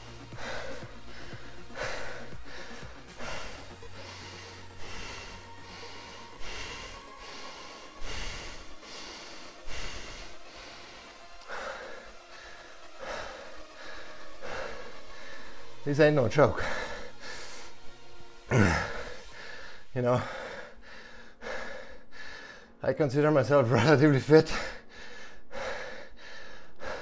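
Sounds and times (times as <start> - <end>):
man panting hard: 0.0 - 22.9, 23.6 - 27.0.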